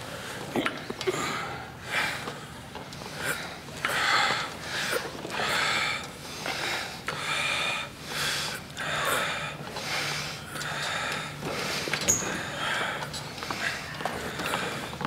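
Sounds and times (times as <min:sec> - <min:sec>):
men breathing hard: 0:00.0 - 0:15.0.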